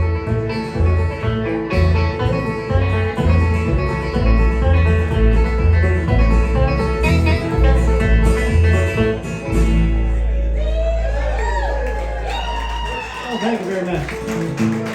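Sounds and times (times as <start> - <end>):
bluegrass acoustic string band: 0.0 - 12.6, 13.4 - 14.9.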